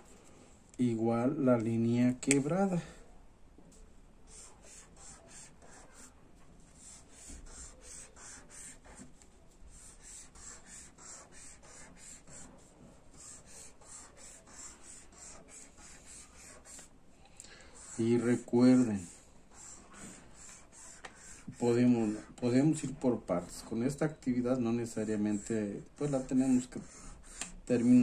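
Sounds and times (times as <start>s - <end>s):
marker scratching on paper: 4.3s - 16.9s, 17.7s - 28.0s.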